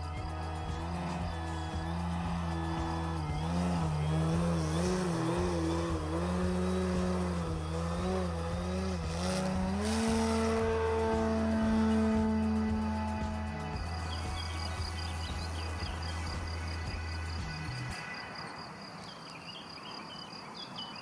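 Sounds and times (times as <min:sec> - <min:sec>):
rc plane electric motor droning: 0:00.0 - 0:18.1.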